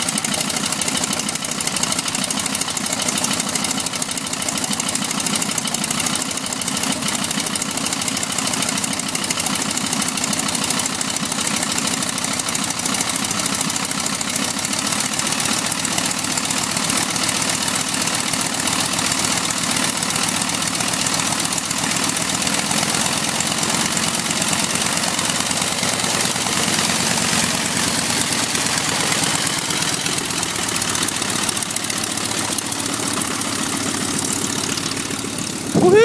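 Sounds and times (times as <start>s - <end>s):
biplane radial engine idling: 0.0s - 36.0s.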